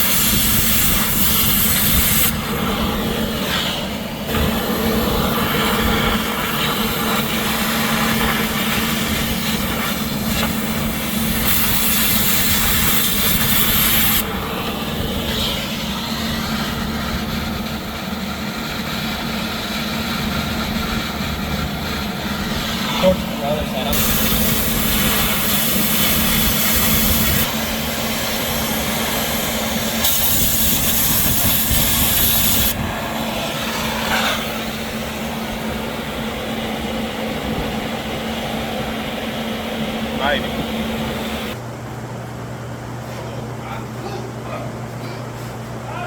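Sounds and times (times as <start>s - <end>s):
cutting torch hissing: 0.0s - 41.6s
steady low hum: 0.0s - 46.0s.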